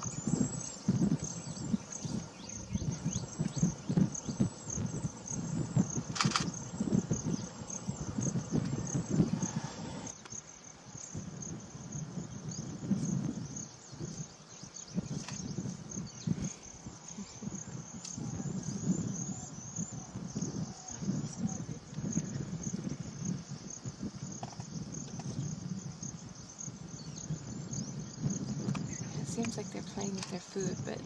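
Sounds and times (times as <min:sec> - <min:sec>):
insect chorus trilling: 0:00.0 - 0:31.0.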